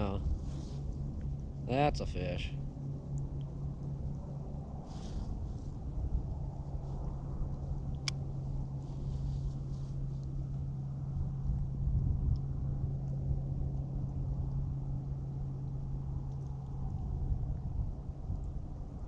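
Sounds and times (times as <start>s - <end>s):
steady low hum: 0.0s - 19.0s
wind rumbling on microphone: 0.0s - 19.0s.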